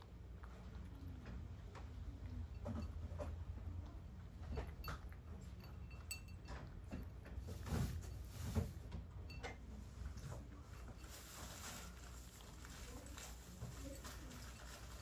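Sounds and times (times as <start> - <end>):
cat chewing and licking: 0.0 - 15.0.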